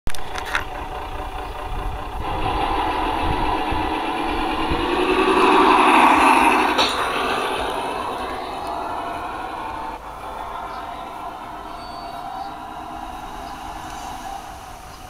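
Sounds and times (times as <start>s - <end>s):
model tram motors whirring: 0.1s - 15.0s
wheels running on rails: 0.1s - 15.0s.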